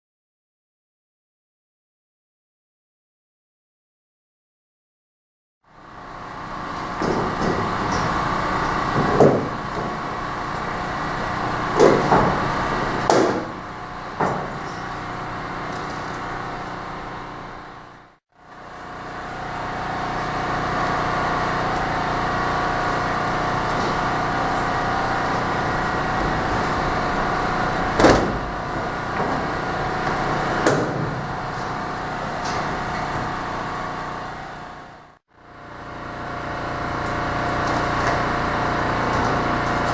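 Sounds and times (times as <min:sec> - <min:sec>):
steady mechanical hum: 0:05.7 - 0:39.9.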